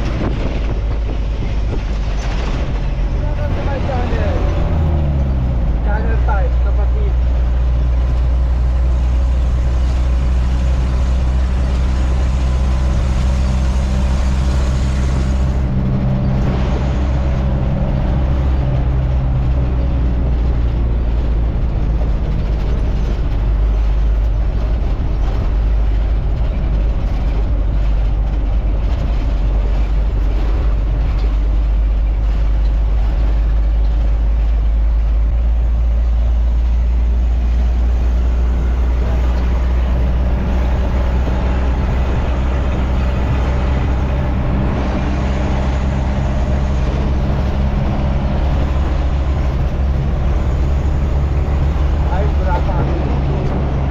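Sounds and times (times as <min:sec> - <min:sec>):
road noise: 0:00.0 - 0:53.9
truck engine drone: 0:00.0 - 0:53.9.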